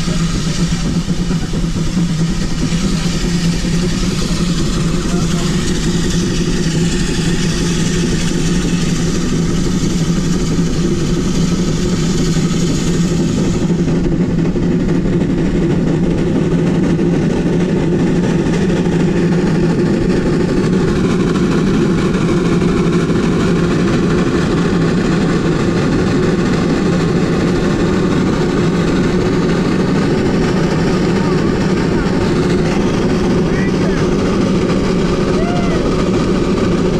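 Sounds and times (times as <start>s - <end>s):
steam locomotive working hard: 0.0s - 36.9s.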